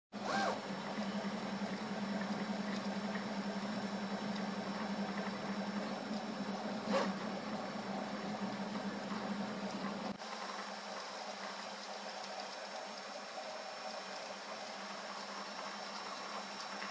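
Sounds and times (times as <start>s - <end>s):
three d printer motors humming: 0.2s - 16.9s.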